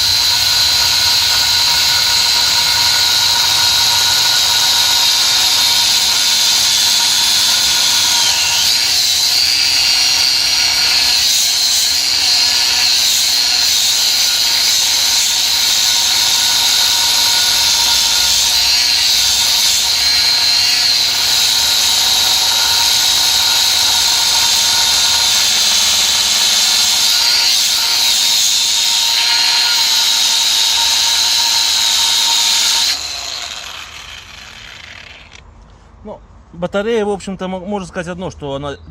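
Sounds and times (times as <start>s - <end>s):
angle grinder cutting steel: 0.0s - 35.4s.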